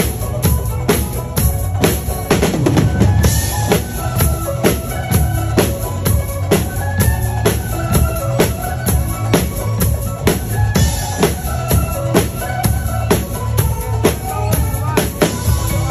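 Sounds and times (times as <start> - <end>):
backing music track: 0.0 - 15.9
drum kit playing steady beat: 0.0 - 15.9.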